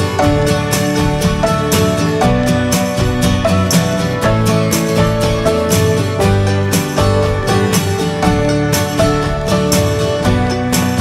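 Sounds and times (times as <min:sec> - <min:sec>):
country music with plucked guitar: 0:00.0 - 0:11.0.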